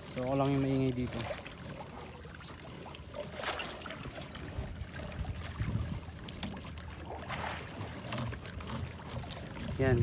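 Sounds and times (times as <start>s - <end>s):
water splashing against boat hull: 0.0s - 10.0s.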